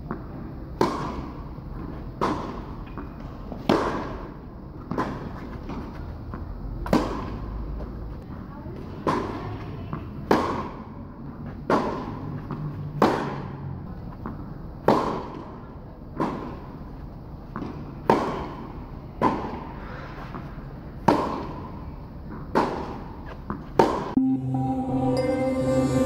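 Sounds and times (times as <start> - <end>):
rackets hitting tennis ball: 0.0 - 24.2
tennis ball bouncing: 0.0 - 24.2.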